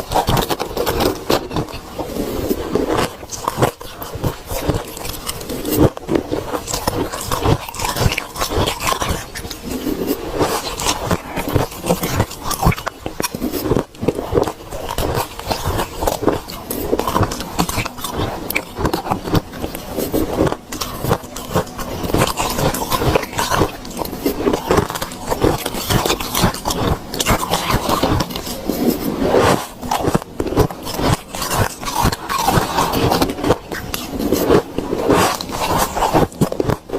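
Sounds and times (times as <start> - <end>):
person chewing ice: 0.0 - 36.9.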